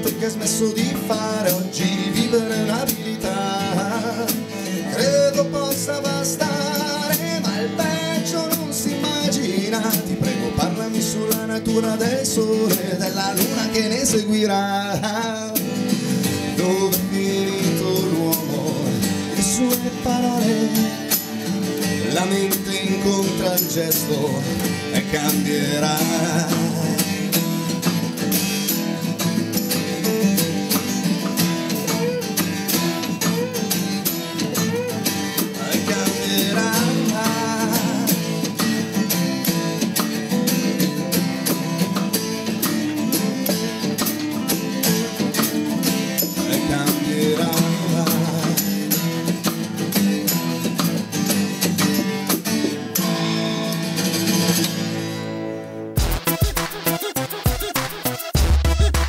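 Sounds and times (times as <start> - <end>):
man singing: 0.0 - 28.2, 29.6 - 54.7
drums: 0.0 - 55.0, 56.0 - 59.0
acoustic bass guitar: 0.0 - 59.0
strummed acoustic guitars: 0.0 - 59.0.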